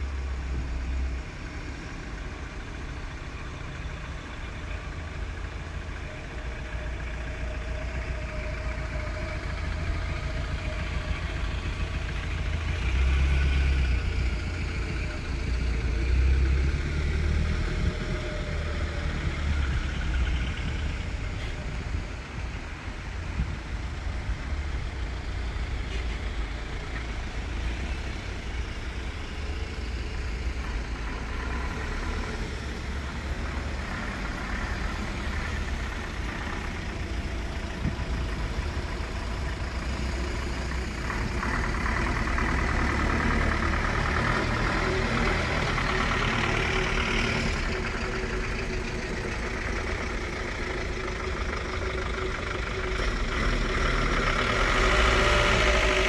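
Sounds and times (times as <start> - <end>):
diesel truck engines rumbling: 0.0 - 56.0.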